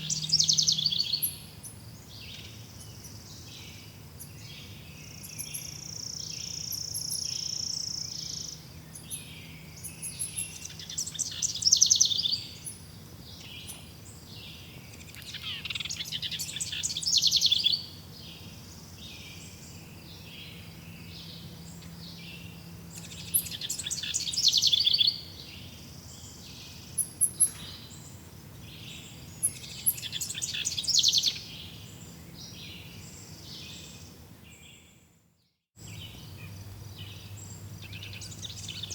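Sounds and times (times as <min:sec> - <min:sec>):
songbirds trilling: 0:00.0 - 0:35.1, 0:35.8 - 0:38.9.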